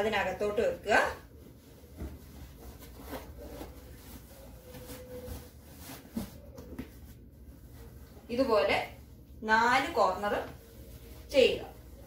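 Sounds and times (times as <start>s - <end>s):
bedsheet fabric rustling: 0.0s - 12.0s.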